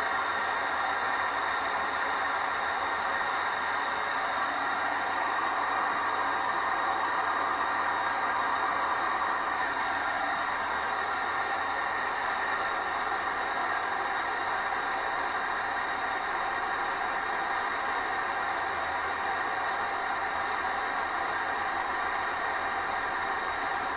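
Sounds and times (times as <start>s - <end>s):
small engine whirring and hissing: 0.0s - 23.9s.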